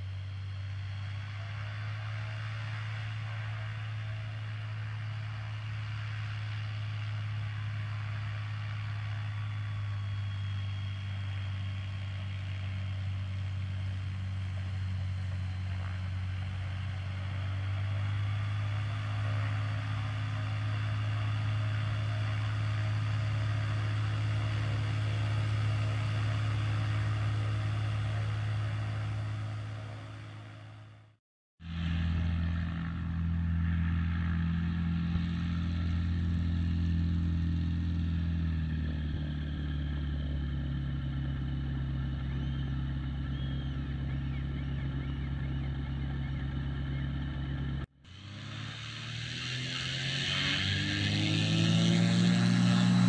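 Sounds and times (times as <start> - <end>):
propeller engine drone: 0.0 - 53.0.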